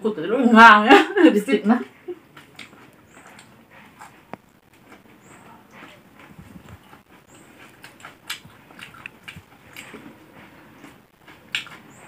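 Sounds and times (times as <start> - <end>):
food crackling: 1.9 - 12.0
crunchy chewing: 2.2 - 12.0.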